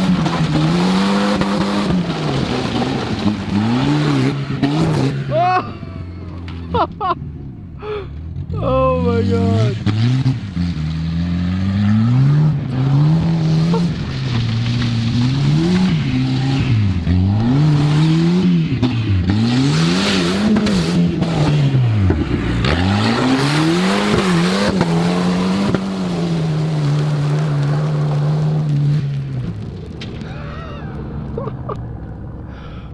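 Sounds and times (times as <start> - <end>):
tyres spinning in sand: 0.0 - 7.7, 8.3 - 32.4
car engine revving: 0.0 - 32.9.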